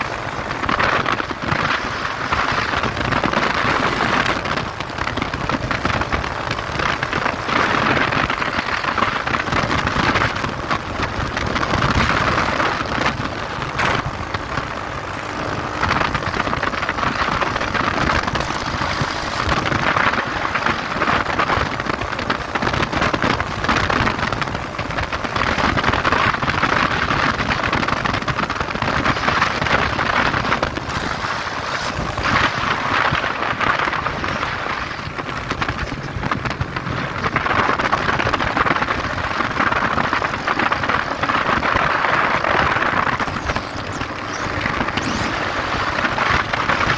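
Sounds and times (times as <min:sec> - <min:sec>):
motorcycle engine running: 0:00.0 - 0:46.9
wind rushing over microphone: 0:00.0 - 0:46.9.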